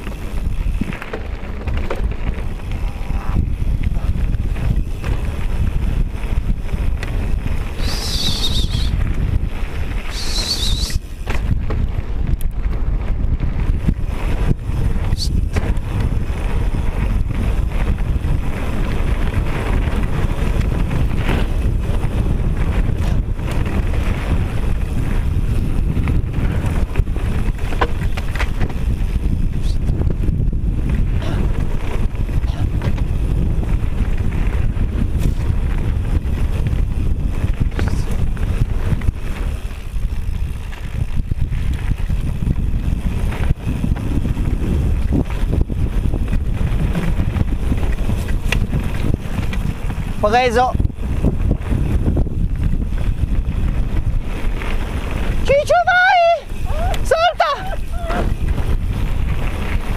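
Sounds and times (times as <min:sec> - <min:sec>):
bike rattling on stones: 0:00.0 - 0:59.9
bike tyres rumbling on gravel: 0:00.0 - 0:59.9
wind buffeting microphone: 0:00.0 - 0:59.9.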